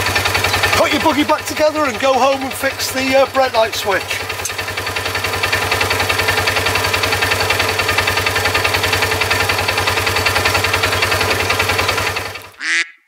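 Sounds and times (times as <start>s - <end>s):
engine idling: 0.0s - 12.6s.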